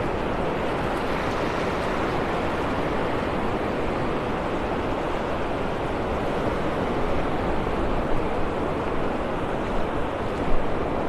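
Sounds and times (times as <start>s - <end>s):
small waves washing up beach: 0.0s - 11.0s.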